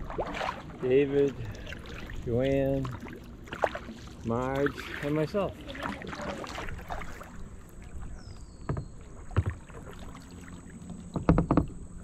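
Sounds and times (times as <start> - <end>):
kayak paddle strokes in water: 0.0 - 12.0.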